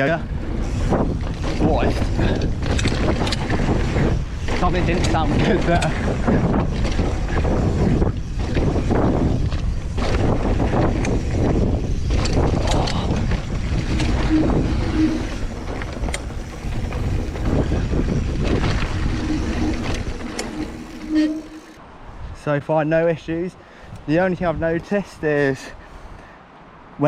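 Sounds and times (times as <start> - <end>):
wind rumble on microphone: 0.0 - 22.4.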